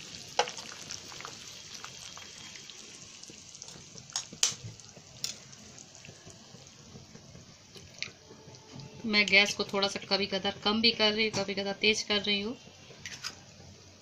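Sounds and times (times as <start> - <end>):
gravy bubbling in a pan: 0.0 - 14.0.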